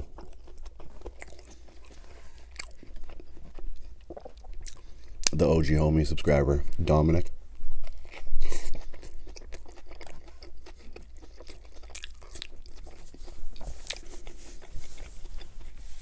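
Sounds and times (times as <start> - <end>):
chewing food: 0.0 - 5.6, 7.6 - 16.0.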